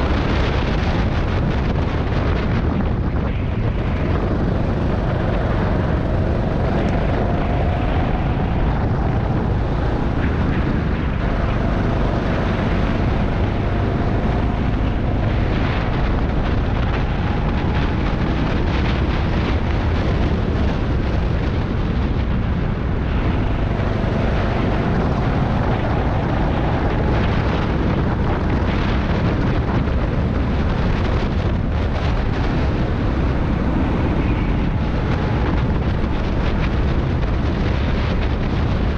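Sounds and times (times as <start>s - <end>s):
wind noise on microphone: 0.0s - 38.9s
go-kart engine: 3.3s - 38.9s.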